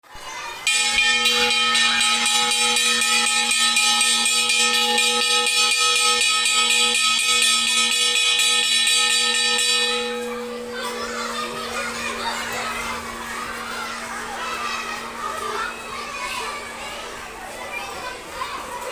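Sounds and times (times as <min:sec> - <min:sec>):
electric alarm bell ringing: 0:00.7 - 0:17.2.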